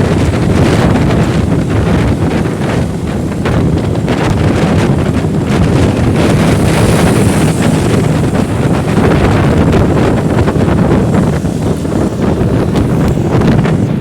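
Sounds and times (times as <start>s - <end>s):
motorcycle engine: 0.0s - 14.0s
road noise: 0.0s - 14.0s
wind buffeting microphone: 0.0s - 14.0s.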